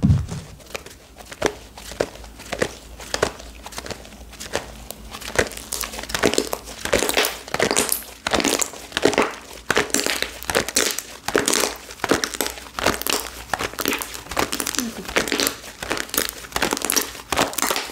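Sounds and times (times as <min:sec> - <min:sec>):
slime squished by hand: 0:00.0 - 0:17.9.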